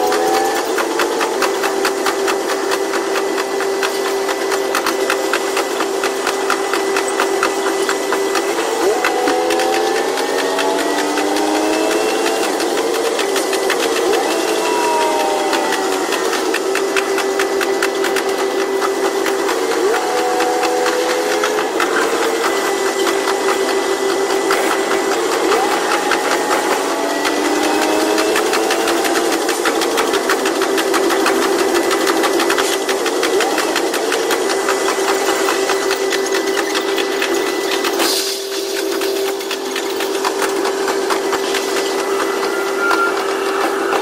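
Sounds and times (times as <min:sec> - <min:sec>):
diesel railcar engine drone: 0:00.0 - 0:44.0
wheels clattering on track: 0:00.0 - 0:44.0.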